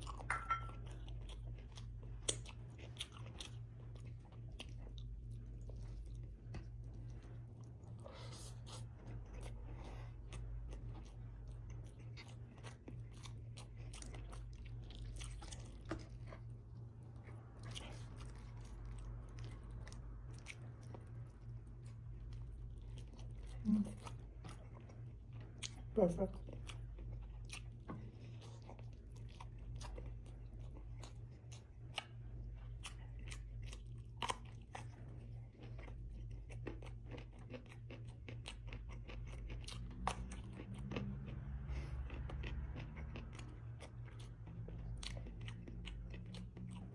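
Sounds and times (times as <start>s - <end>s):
chewing and biting food: 0.0s - 46.9s
steady low hum: 0.0s - 46.9s.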